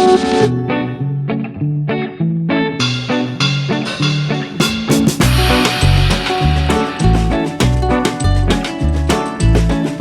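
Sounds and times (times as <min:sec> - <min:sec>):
bouncy plucked guitar music: 0:00.0 - 0:10.0.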